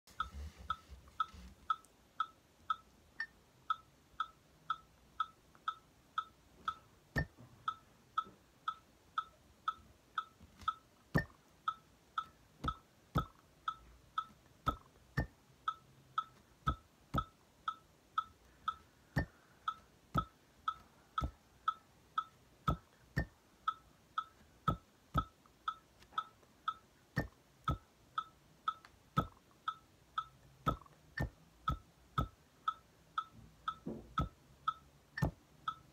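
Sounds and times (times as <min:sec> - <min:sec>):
metronome clicking: 0:00.1 - 0:35.9.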